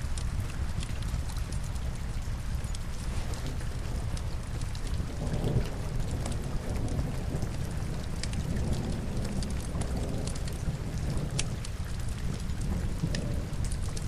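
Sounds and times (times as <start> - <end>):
burning logs crackling: 0.0 - 14.0
steady rain: 0.0 - 14.0.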